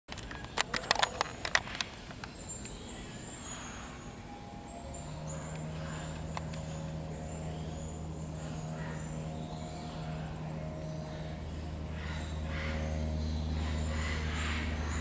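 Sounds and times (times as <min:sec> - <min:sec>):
low motor hum: 0:00.2 - 0:15.0.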